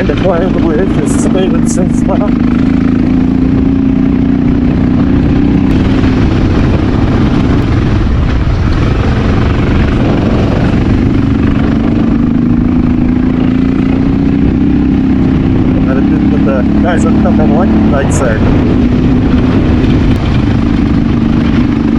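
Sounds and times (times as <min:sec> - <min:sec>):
motorcycle engine under load: 0:00.0 - 0:21.9
wind rushing over microphone: 0:00.0 - 0:21.9.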